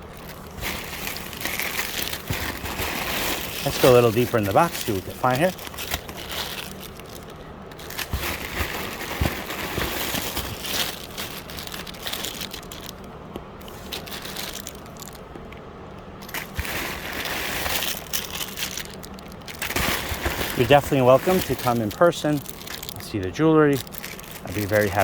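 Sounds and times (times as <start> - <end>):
packaging crinkling and rustling: 0.0 - 15.6, 16.2 - 25.0.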